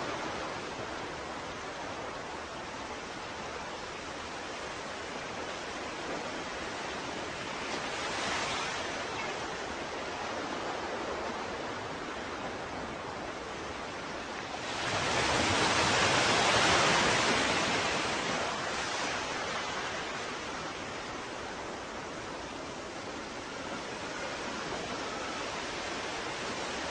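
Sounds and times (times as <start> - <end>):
ocean waves breaking: 0.0 - 26.9
steady surf: 0.0 - 26.9.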